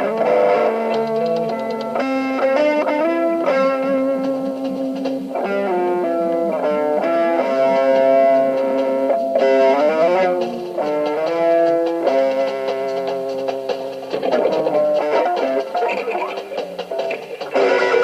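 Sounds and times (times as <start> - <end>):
distorted electric guitar lead: 0.0 - 18.0.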